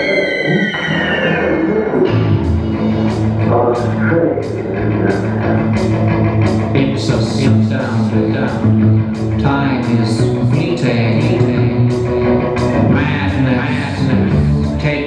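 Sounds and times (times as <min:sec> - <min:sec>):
rock music: 0:00.0 - 0:15.0
steady drum beat: 0:00.0 - 0:15.0.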